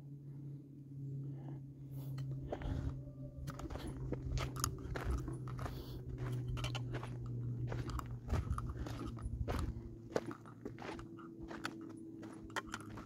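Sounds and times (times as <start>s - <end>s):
steady low hum: 0.0s - 13.0s
footsteps crunching on gravel: 2.4s - 13.0s.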